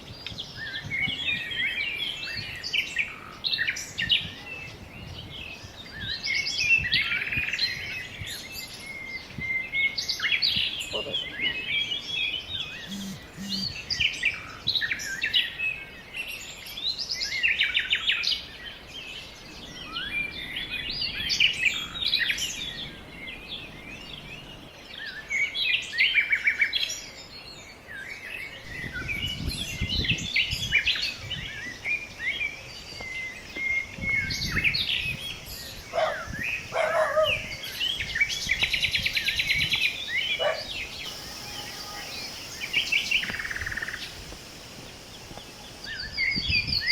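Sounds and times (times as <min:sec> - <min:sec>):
birds chirping and singing: 0:00.2 - 0:26.4, 0:28.4 - 0:46.9.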